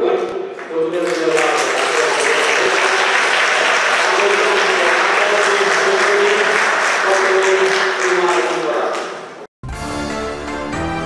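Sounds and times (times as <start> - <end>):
audience applauding: 0.5 - 9.5.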